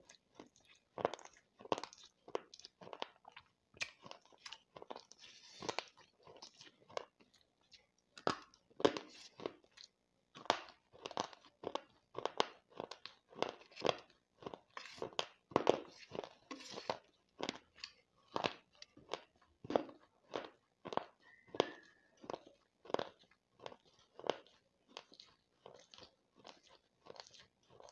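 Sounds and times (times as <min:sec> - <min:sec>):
crisp crunching while chewing: 0:00.0 - 0:27.9.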